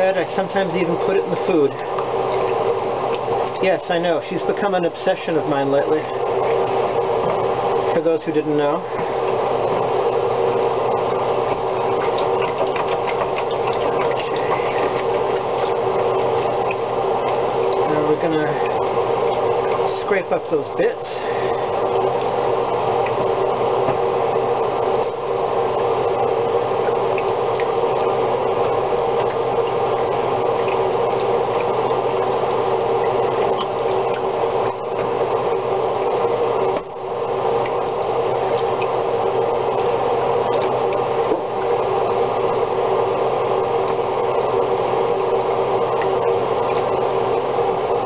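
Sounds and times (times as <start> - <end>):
wine simmering in a skillet: 0.0 - 48.0.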